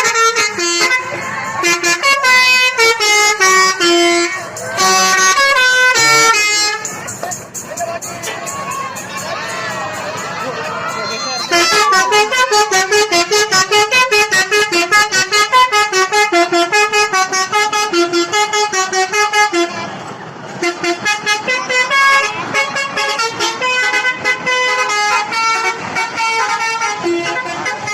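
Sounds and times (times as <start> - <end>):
bus musical horn tooting: 0.0 - 27.9.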